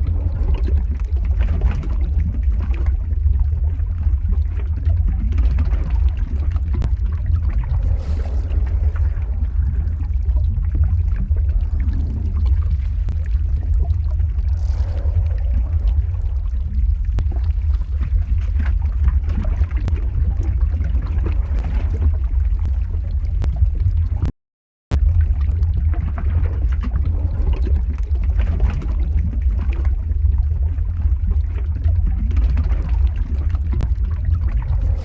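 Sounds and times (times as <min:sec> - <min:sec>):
crackles and pops: 0:00.0 - 0:24.3, 0:24.9 - 0:35.0
deep rumble: 0:00.0 - 0:24.3, 0:24.9 - 0:35.0.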